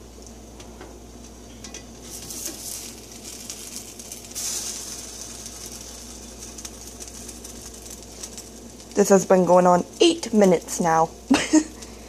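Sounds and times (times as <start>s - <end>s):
sandwich sizzling in a pan: 1.9s - 12.0s.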